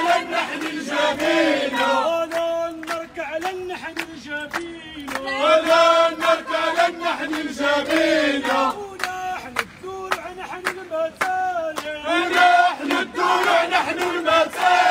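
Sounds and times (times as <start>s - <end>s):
crowd chanting: 0.0s - 14.9s
rhythmic hand claps: 0.0s - 14.9s.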